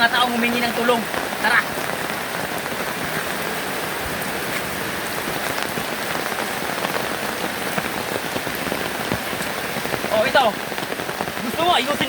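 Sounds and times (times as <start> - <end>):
raindrop hits: 0.0 - 12.0
steady rain hiss: 0.0 - 12.0.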